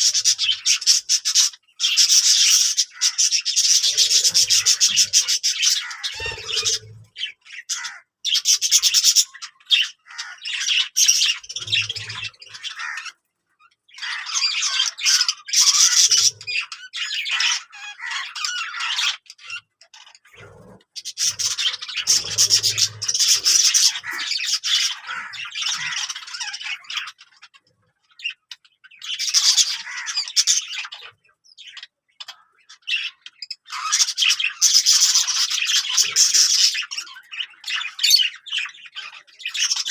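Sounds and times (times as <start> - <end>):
budgerigars chattering: 0.0 - 13.2, 13.9 - 39.9.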